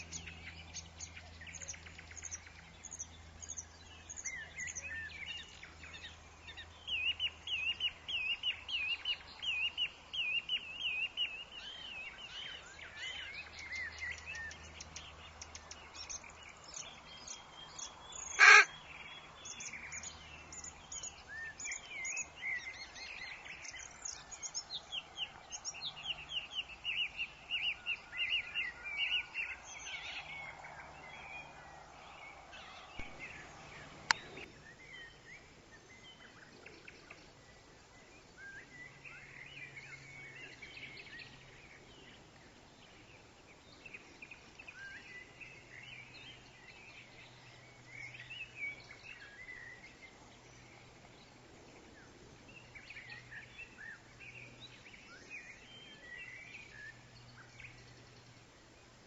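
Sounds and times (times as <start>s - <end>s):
wind in trees: 0.0s - 59.0s
woodland birds chirping: 0.0s - 59.0s.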